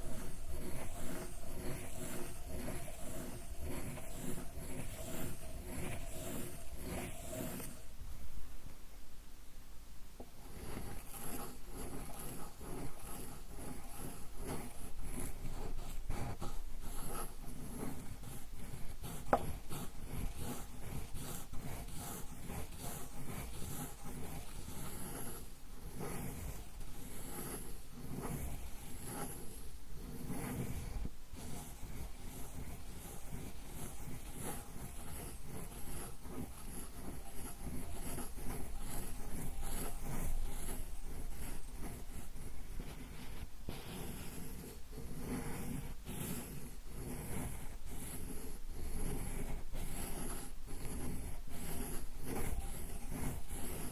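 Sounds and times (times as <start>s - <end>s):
ink stick rubbing on stone: 0.0s - 7.9s, 10.4s - 53.9s.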